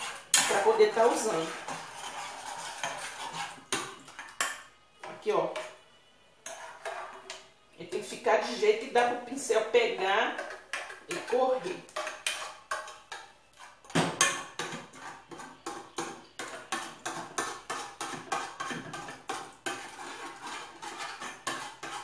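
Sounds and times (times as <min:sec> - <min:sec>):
spoon scraping saucepan: 0:00.0 - 0:05.8, 0:06.4 - 0:22.0.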